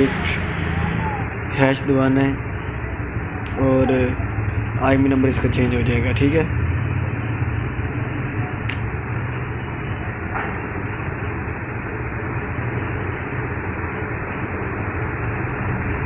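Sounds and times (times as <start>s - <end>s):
low rumble and hiss of machinery: 0.0s - 16.0s.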